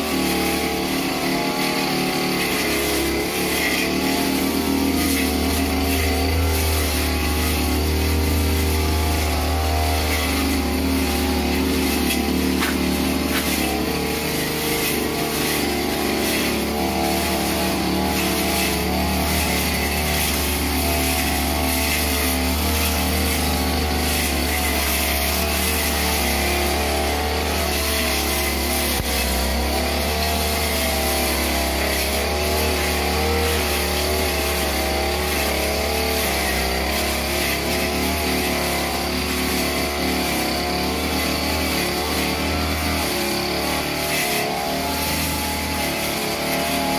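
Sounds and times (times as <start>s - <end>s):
brush cutter engine running: 0.0s - 46.9s.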